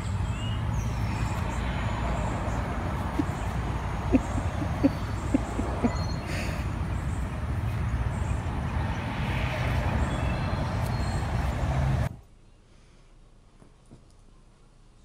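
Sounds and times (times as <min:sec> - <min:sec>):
low outdoor rumble: 0:00.0 - 0:13.6.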